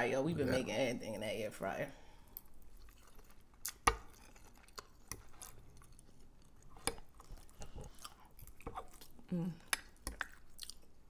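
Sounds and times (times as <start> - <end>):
soft chewing: 2.1 - 11.0.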